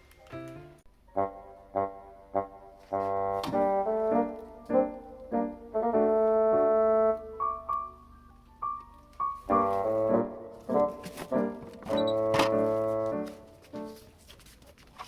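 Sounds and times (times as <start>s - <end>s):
piano music: 0.0s - 14.2s.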